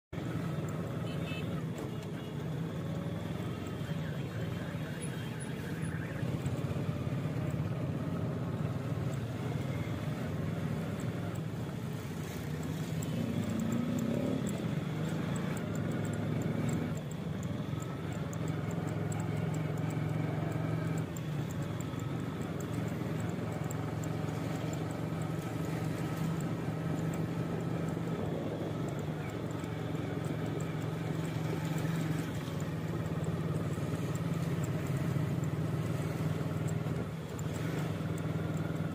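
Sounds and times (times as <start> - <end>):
road noise: 0.0 - 38.9
motorcycles passing: 0.2 - 38.9
vehicle engine drone: 0.2 - 38.9.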